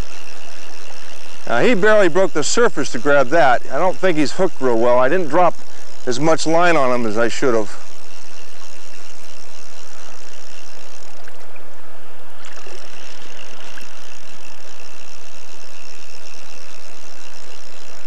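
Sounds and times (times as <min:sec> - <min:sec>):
steady high buzz: 0:00.0 - 0:18.0.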